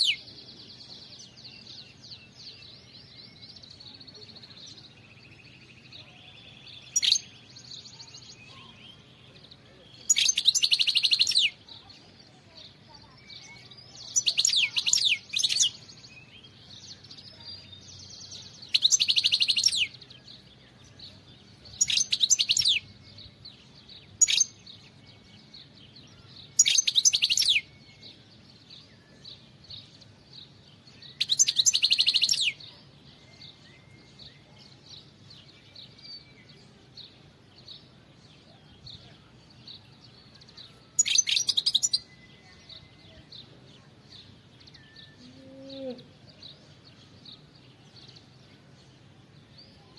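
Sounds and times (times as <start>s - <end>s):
bird twittering song: 0.0s - 49.9s
soft bird chirps: 0.0s - 49.9s.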